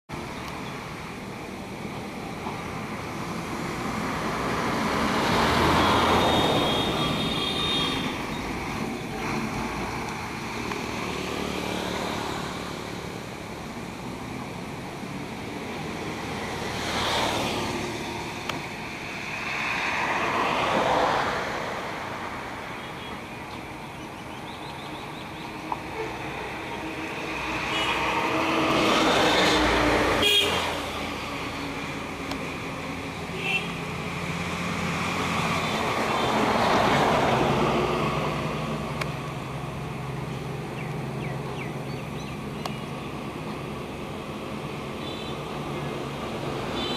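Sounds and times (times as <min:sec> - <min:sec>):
vehicles passing: 0:00.1 - 0:46.9.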